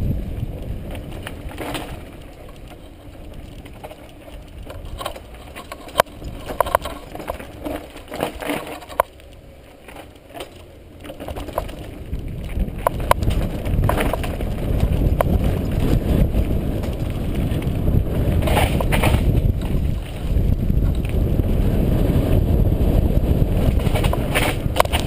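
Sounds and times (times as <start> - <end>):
bike knocks and rattles: 0.0 - 25.0
tyre rumble: 0.0 - 25.0
wind buffeting microphone: 0.0 - 25.0.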